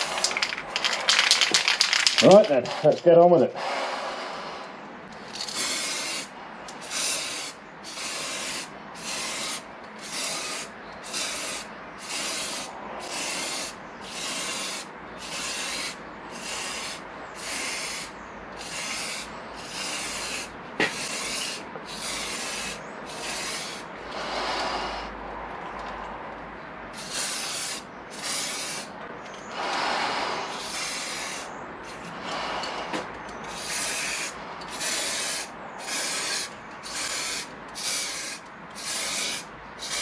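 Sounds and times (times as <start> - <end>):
spray paint hissing bursts: 0.0 - 3.0, 5.3 - 25.2, 26.9 - 40.0.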